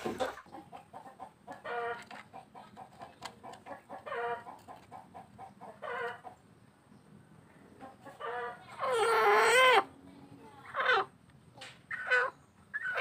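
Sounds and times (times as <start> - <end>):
chicken drawn-out calls: 0.0 - 6.4, 7.7 - 10.0, 10.6 - 13.0
chickens clucking: 0.0 - 13.0.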